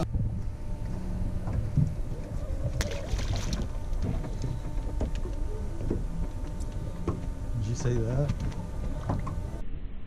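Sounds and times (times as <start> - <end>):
water moving around hull: 0.0 - 9.8.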